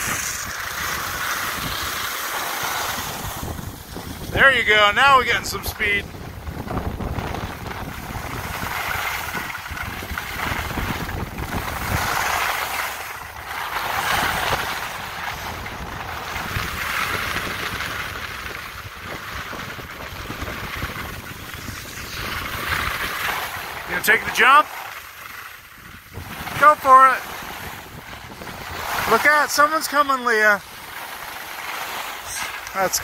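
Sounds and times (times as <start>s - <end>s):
skis sliding on snow: 0.0s - 33.0s
wind rumbling on microphone: 0.0s - 33.0s.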